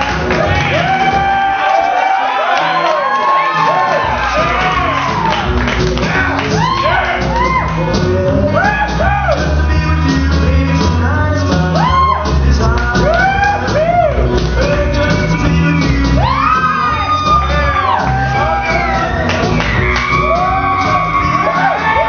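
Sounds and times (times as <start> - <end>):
crowd shouts and whoops: 0.0 - 9.6, 11.7 - 22.0
loud recorded music with singer: 0.0 - 22.0.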